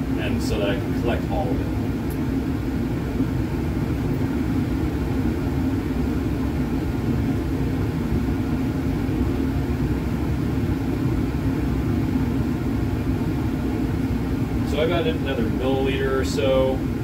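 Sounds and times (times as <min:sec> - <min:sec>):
ventilation airflow rumble: 0:00.0 - 0:17.0.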